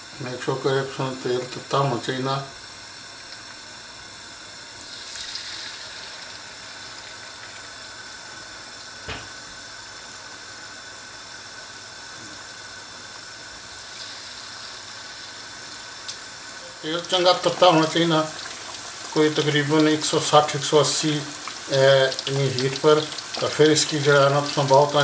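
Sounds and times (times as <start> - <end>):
food deep-frying in oil: 0.6 - 25.0.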